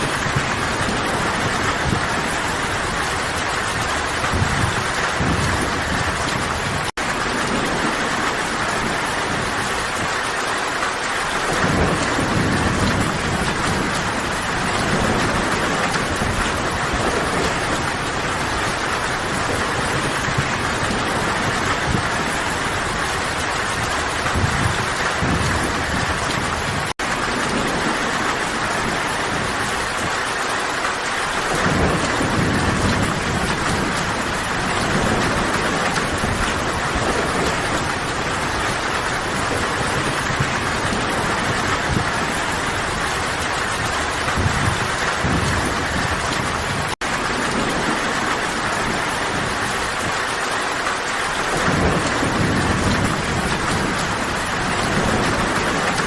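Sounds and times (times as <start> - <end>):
steady rain hissing: 0.0 - 56.0
thunder rumbling: 0.0 - 56.0.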